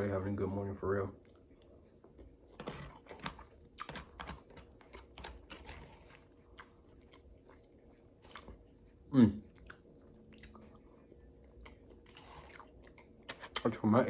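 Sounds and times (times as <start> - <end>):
chewing and mouth clicks: 1.2 - 13.8.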